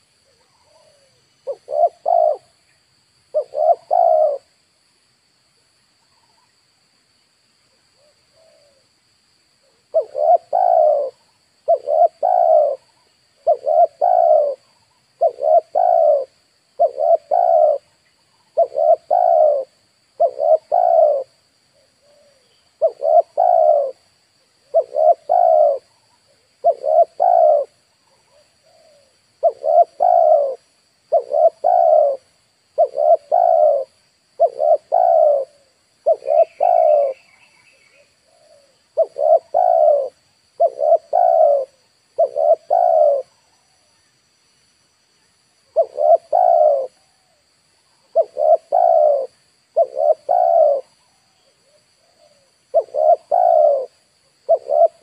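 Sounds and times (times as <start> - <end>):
dove cooing: 0.0 - 2.6, 3.3 - 4.5, 9.6 - 43.6, 45.6 - 55.0
small bird chirping: 0.0 - 4.6, 9.6 - 55.0.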